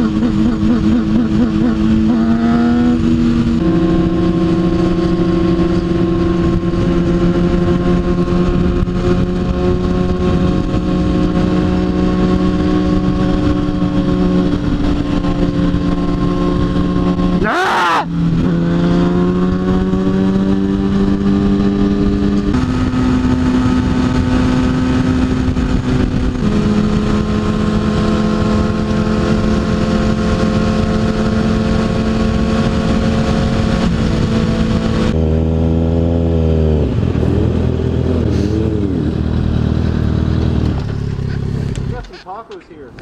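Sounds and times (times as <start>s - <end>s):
motorcycle engine running: 0.0s - 42.2s
heavy wind noise: 0.0s - 43.0s.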